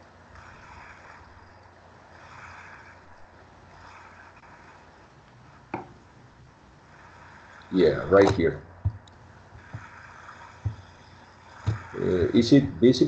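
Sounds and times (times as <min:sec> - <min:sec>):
low hum: 0:00.0 - 0:13.0
microphone hiss: 0:00.0 - 0:13.0.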